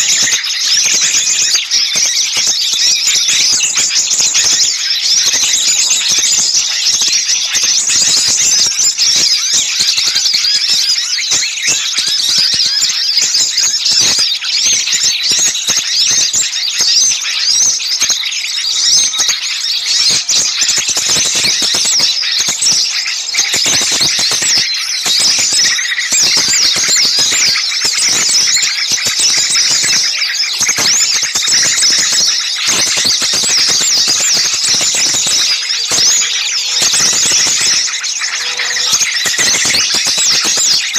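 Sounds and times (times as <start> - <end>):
small songbirds chattering: 0.0 - 40.9.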